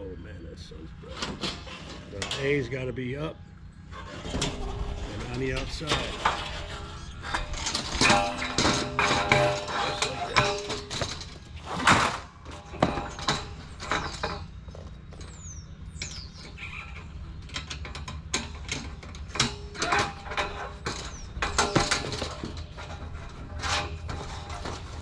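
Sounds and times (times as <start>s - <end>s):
sheet-metal panels clanking: 1.0s - 2.9s, 4.0s - 15.4s, 16.0s - 25.0s.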